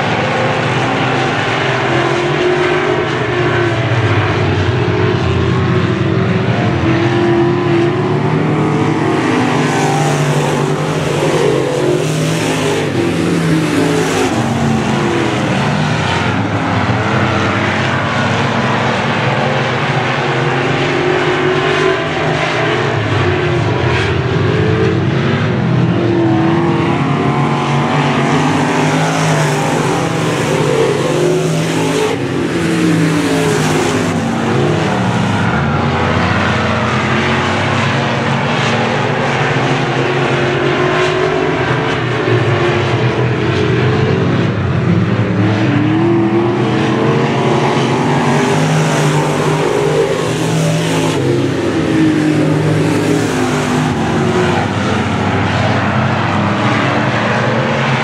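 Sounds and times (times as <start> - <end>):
race car engines revving past: 0.0 - 58.0.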